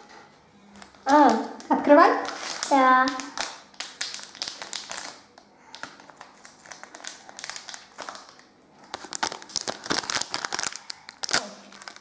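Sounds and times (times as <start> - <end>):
foil packet crinkling: 0.8 - 12.0.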